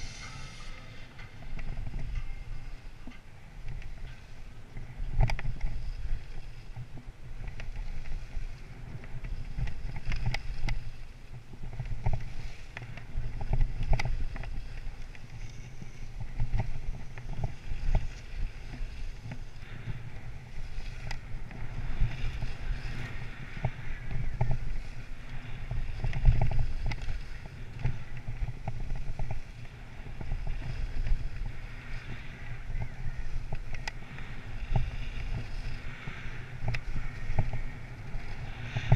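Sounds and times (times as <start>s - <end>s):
skis scraping over snow: 0.0s - 38.9s
wind buffeting microphone: 0.0s - 38.9s.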